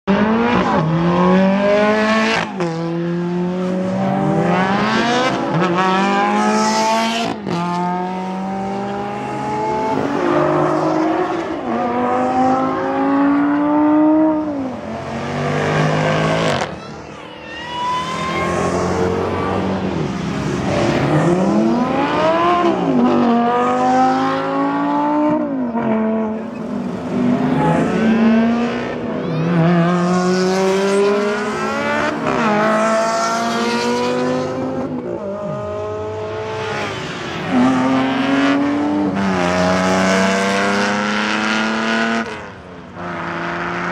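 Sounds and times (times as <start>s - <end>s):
supercar engines accelerating: 0.1s - 16.8s, 17.7s - 43.9s.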